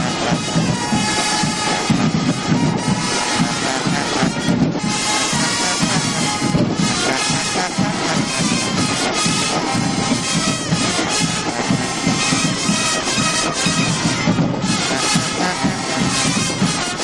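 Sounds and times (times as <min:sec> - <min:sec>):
wind band playing loudly: 0:00.0 - 0:17.0.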